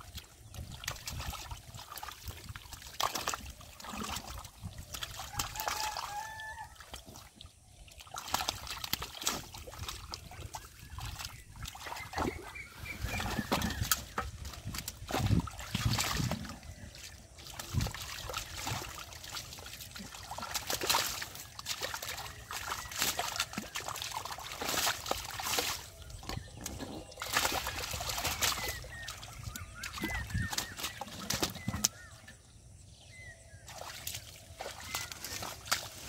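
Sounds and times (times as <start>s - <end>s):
muddy water splashing: 0.0s - 36.0s.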